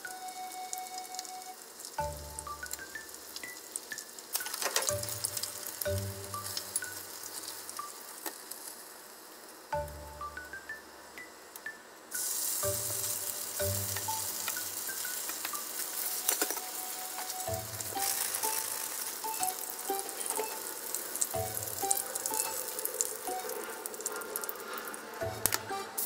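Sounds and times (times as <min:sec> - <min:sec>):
food sizzling in hot oil: 0:01.6 - 0:10.8, 0:12.1 - 0:26.0.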